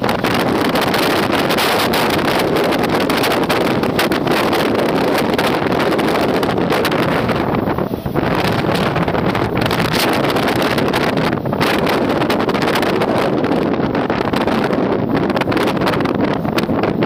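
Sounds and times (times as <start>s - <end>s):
passing train: 0.0s - 17.0s
train wheels rumbling on rails: 0.0s - 17.0s
wind buffeting microphone: 0.0s - 17.0s.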